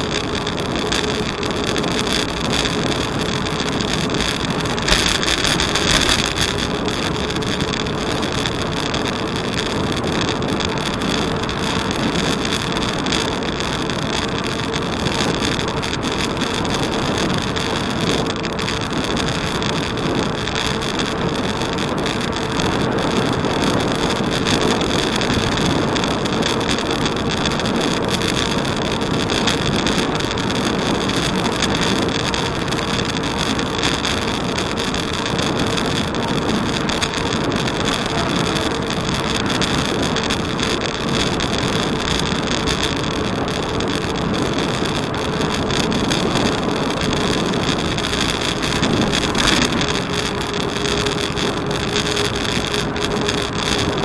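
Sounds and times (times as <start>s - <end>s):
bicycle tyre rumble on pavement: 0.0s - 54.0s
wind on microphone: 0.0s - 54.0s.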